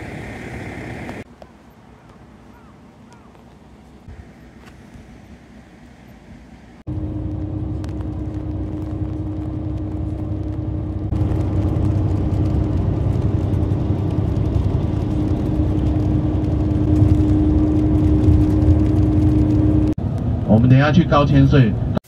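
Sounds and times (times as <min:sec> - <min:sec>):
constant hum: 0:00.0 - 0:22.0
vehicle interior road rumble: 0:00.0 - 0:22.0.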